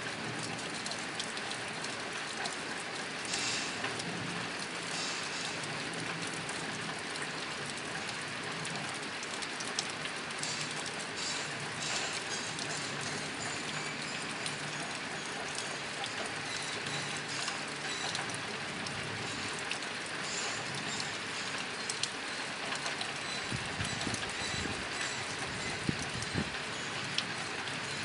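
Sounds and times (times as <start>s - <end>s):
rain on a tin roof: 0.0s - 28.0s.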